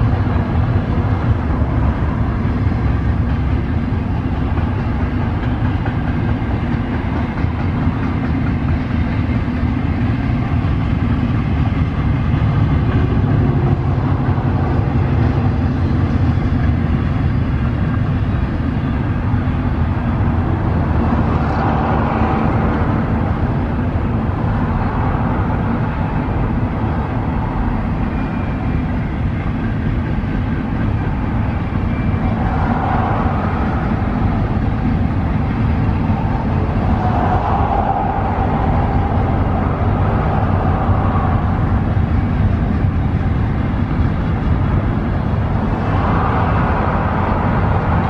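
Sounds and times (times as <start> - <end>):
freight train wheels rumbling on rail: 0.0 - 48.0.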